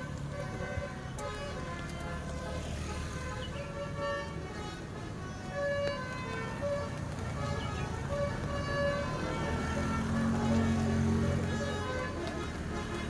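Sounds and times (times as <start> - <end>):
bus engine rumbling: 0.0 - 13.0
multi-tone bus horn tune: 0.0 - 13.0.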